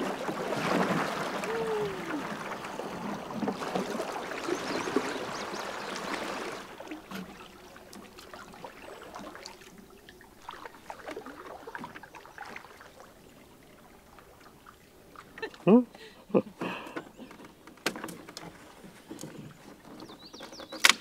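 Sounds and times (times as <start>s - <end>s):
canoe paddle strokes: 0.0s - 15.7s, 16.4s - 21.0s
water swishing along hull: 0.0s - 21.0s.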